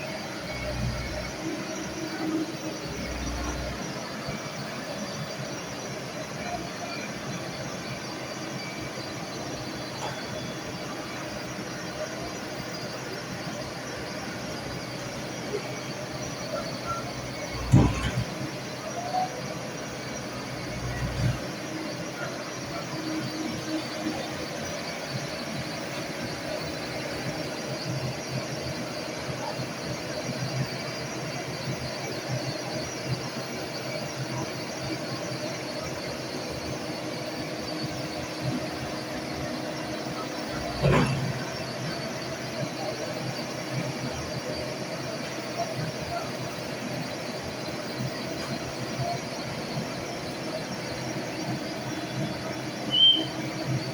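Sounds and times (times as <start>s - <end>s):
excavator running: 0.0s - 53.9s.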